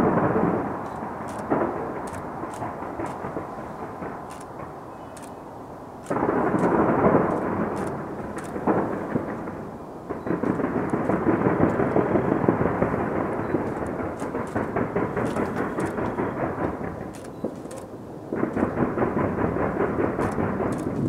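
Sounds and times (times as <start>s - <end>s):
distant fireworks bursts: 0.0s - 21.0s
fireworks crackle: 0.0s - 21.0s.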